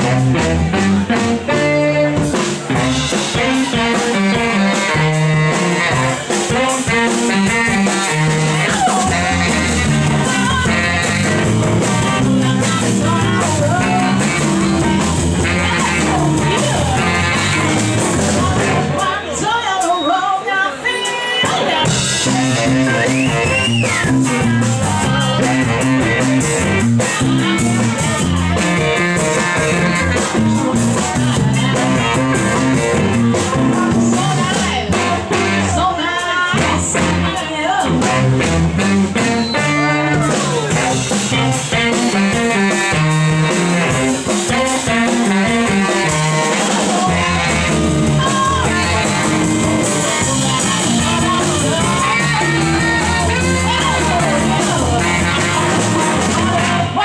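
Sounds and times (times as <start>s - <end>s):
electric guitar: 0.0s - 19.2s, 21.1s - 57.0s
bass: 0.0s - 20.4s, 21.2s - 57.0s
drums: 0.0s - 57.0s
person singing: 0.0s - 57.0s.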